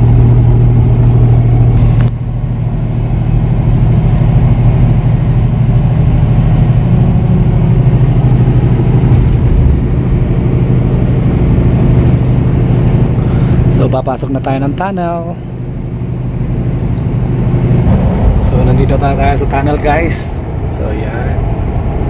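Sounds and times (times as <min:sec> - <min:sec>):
truck diesel engine drone: 0:00.0 - 0:22.0.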